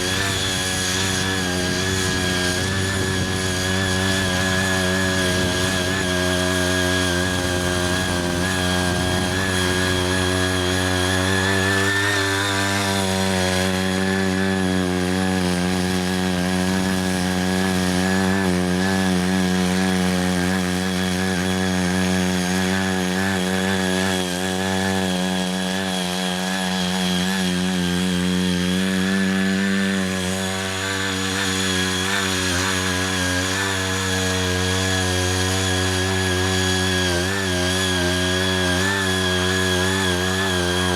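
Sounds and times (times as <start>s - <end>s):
tiller engine running: 0.0s - 40.9s.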